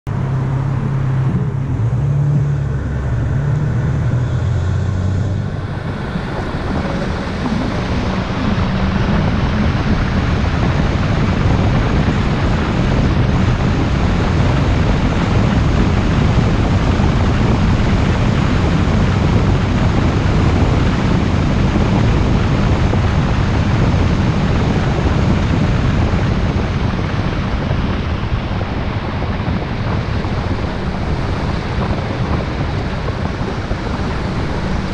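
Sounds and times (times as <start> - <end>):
car engine hum: 0.0 - 34.9
road and wind noise: 0.0 - 34.9.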